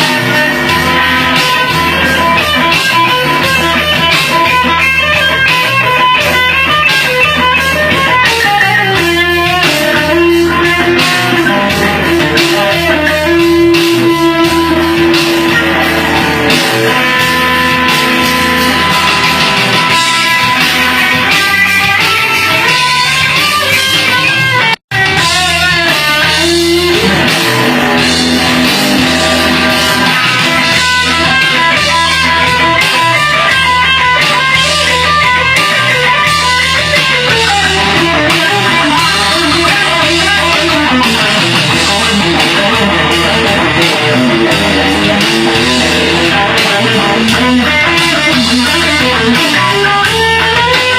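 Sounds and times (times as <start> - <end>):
guitar solo over backing rhythm: 0.0 - 50.9.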